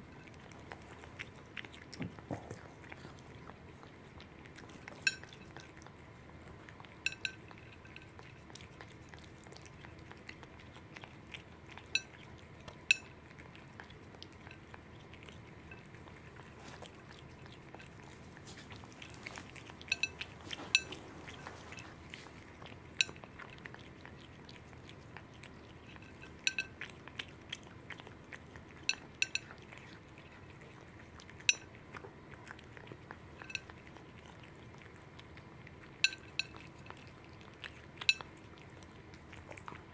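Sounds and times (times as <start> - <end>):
cat chewing: 0.0 - 39.9.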